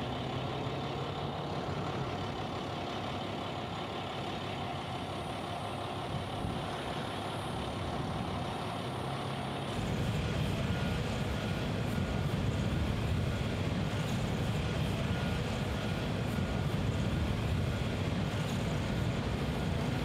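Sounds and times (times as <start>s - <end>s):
heavy machinery engines rumbling: 0.0s - 20.0s.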